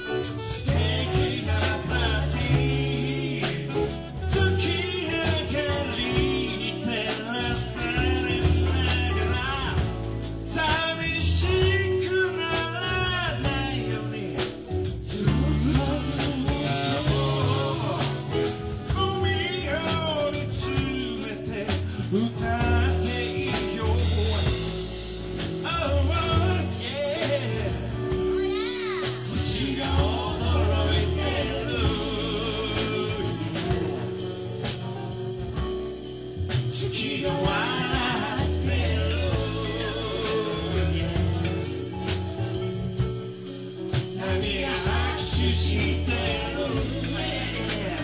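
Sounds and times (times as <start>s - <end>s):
soul band playing: 0.0s - 48.0s.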